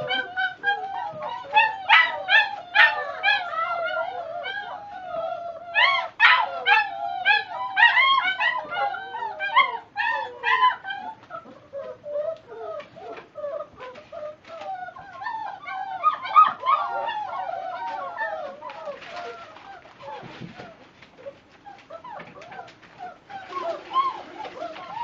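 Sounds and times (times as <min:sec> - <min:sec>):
puppies whining and howling: 0:00.0 - 0:25.0.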